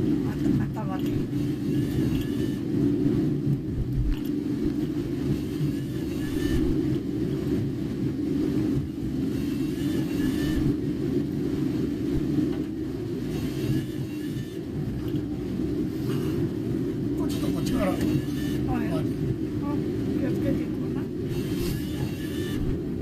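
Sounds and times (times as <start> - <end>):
road and engine rumble: 0.0 - 23.0.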